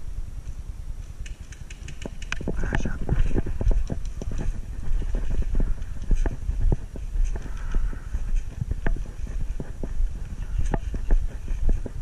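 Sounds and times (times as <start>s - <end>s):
steady low rumble: 0.0s - 12.0s
quick footsteps on ground: 0.4s - 12.0s.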